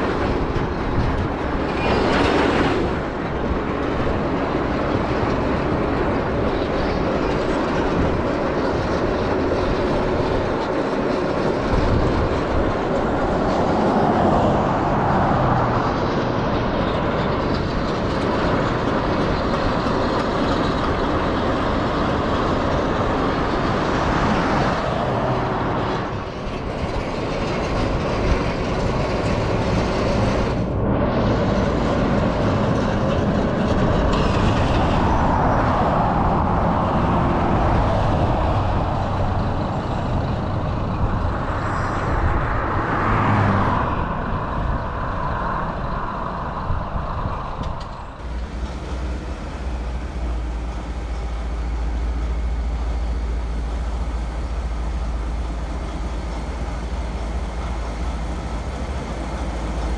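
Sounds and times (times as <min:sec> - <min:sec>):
heavy vehicles passing by: 0:00.0 - 0:59.9.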